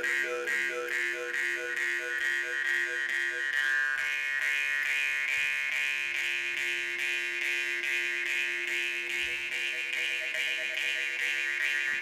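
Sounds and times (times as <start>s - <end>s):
jaw harp buzzing melody: 0.0s - 12.0s.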